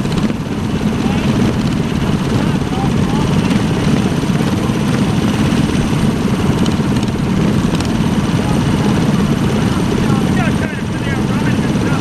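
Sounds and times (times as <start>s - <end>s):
minibike engine running: 0.0s - 12.0s.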